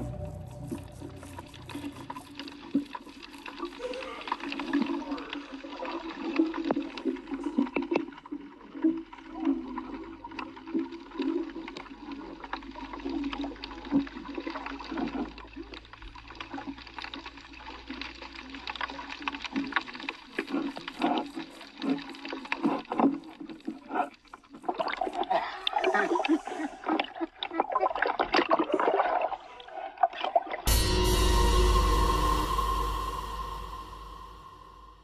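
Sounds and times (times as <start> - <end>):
underwater clicks and crackles: 2.1 - 30.6.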